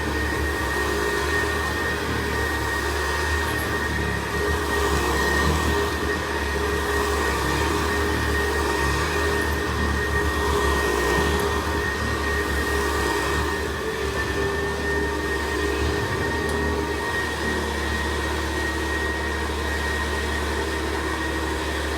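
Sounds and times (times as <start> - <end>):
upright vacuum cleaner running: 0.0 - 21.9.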